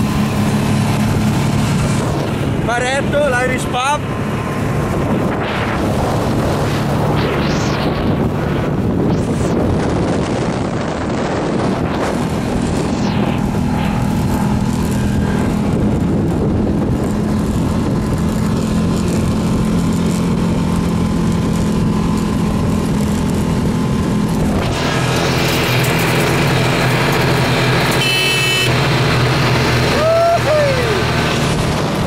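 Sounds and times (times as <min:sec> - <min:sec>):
buggy engine droning: 0:00.0 - 0:32.0.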